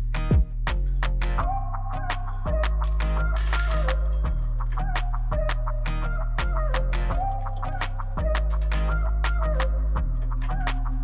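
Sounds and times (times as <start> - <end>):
music with beat and bass line: 0.0 - 11.0.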